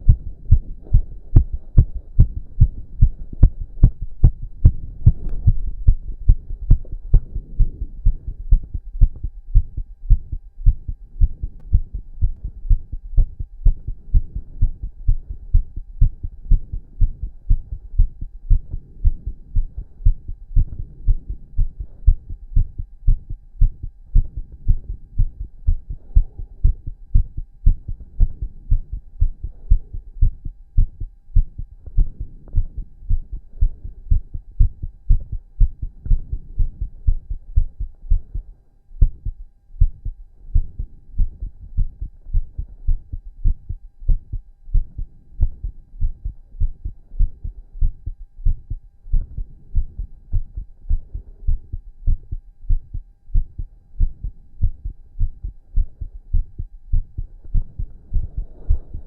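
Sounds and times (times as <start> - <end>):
faint steady hum: 0.0 - 59.0
fast strong heartbeat: 0.0 - 59.0.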